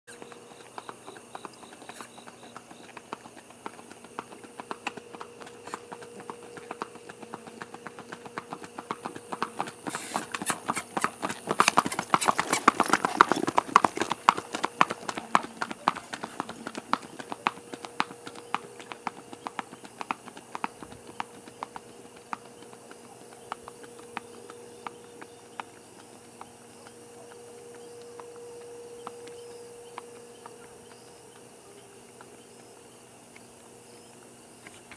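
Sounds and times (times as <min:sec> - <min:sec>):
horse hoofbeats on asphalt: 0:00.1 - 0:31.5.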